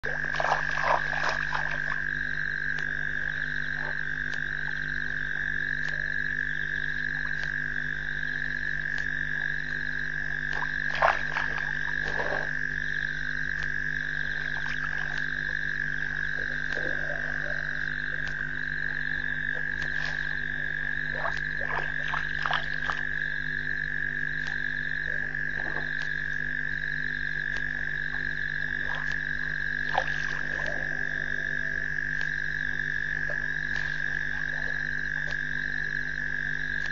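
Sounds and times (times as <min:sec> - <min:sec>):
frog chorus trilling: 0:00.0 - 0:36.9
steady low hum: 0:00.0 - 0:36.9.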